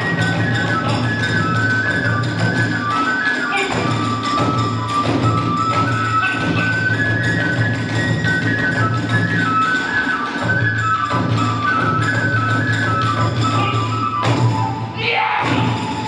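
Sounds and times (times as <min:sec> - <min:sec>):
bamboo flute melody: 0:00.0 - 0:16.0
drumming: 0:00.0 - 0:16.0.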